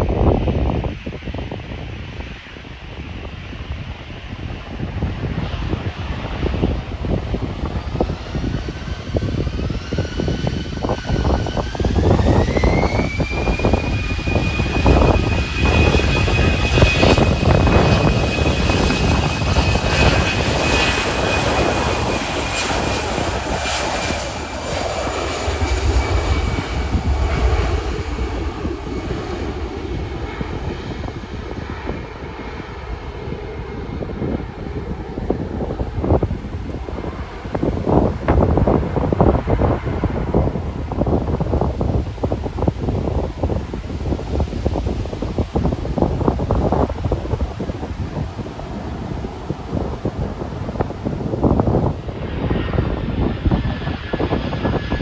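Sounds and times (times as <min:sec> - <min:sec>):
deep engine roar: 0:00.0 - 0:55.0
jet engine whine: 0:00.0 - 0:55.0.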